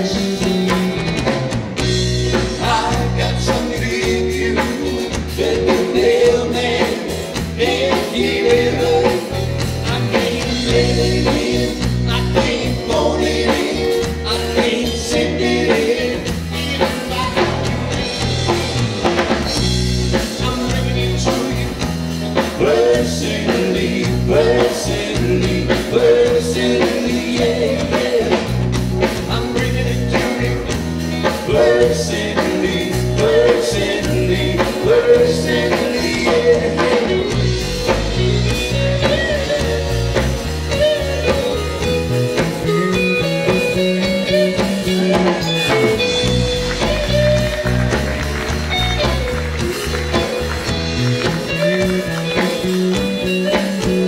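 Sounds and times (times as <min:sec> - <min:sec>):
electric guitar bending notes: 0:00.0 - 0:54.0
rock band playing: 0:00.0 - 0:54.0.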